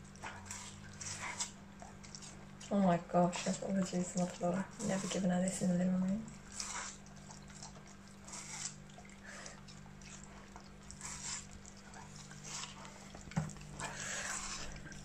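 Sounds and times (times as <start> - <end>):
puppy biting and licking watermelon: 0.0 - 15.0
steady low hum: 0.0 - 15.0.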